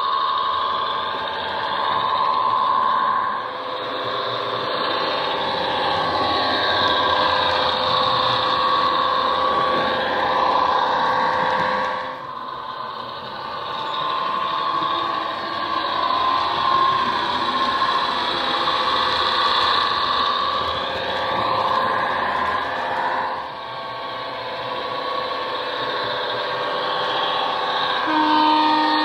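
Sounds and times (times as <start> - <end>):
diesel train engine from speaker: 0.0 - 29.0.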